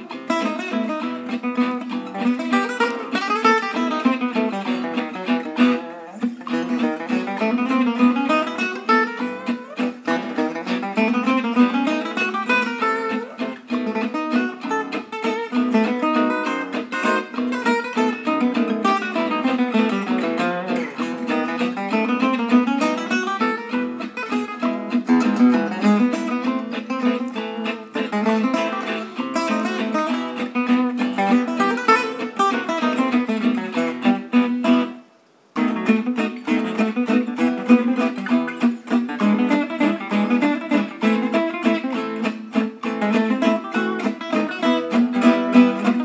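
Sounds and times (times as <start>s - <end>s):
plucked guitar music: 0.0s - 46.0s.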